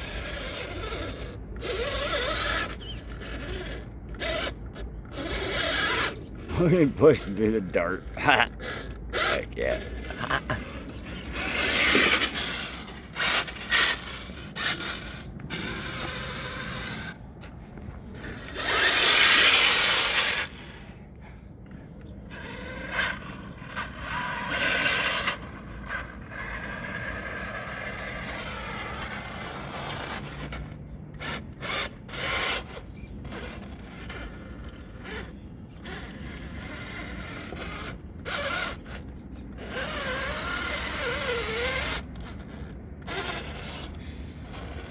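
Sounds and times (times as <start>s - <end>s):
toy truck motor whining: 0.0s - 21.1s, 22.2s - 44.9s
tyres churning through mud: 5.1s - 20.8s, 22.3s - 44.9s.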